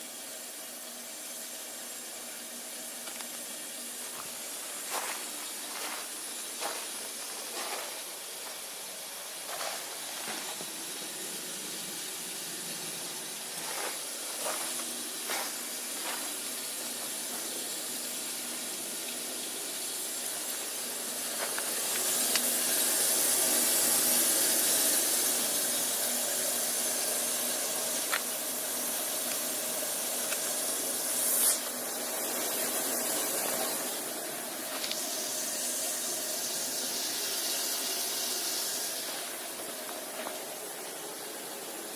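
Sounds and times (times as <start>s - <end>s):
heat pump hissing: 0.0s - 41.9s.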